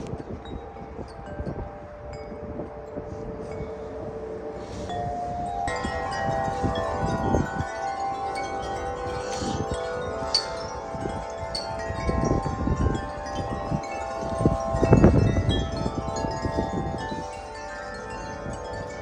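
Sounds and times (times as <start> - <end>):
wind buffeting microphone: 0.0 - 19.0
wind chimes ringing: 0.0 - 19.0.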